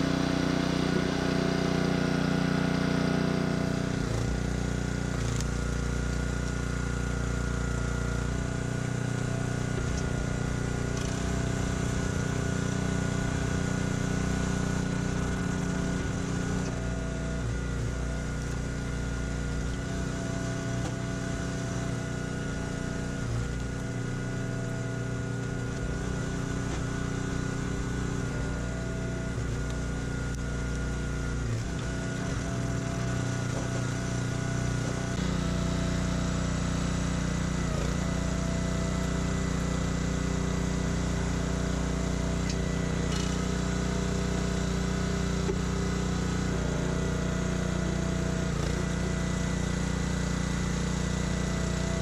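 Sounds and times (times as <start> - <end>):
small gasoline engine running: 0.0 - 52.0.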